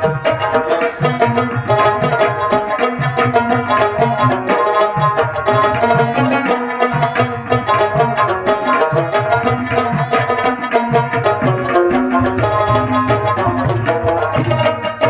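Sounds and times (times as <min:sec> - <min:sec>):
instrumental music with hand drum: 0:00.0 - 0:15.0.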